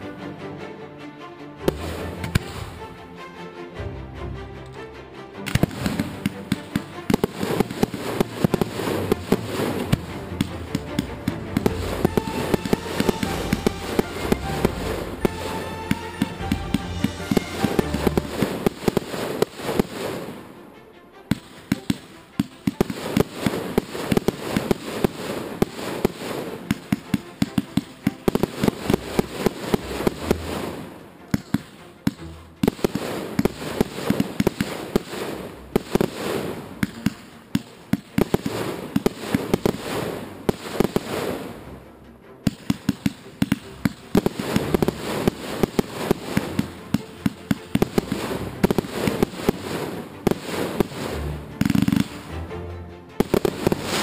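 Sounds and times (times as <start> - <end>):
crackling firework stars: 5.5 - 20.4, 21.3 - 41.6, 42.5 - 52.3, 53.2 - 54.0.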